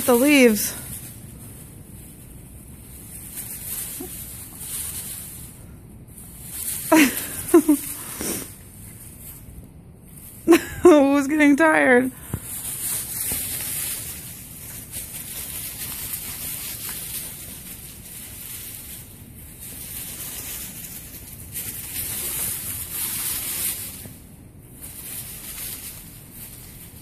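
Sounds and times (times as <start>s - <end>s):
dry leaves rustling and crunching: 0.0s - 27.0s.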